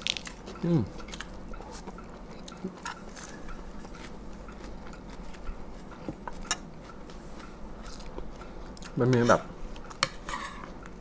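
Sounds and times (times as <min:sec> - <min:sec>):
close-up chewing: 0:00.0 - 0:09.0.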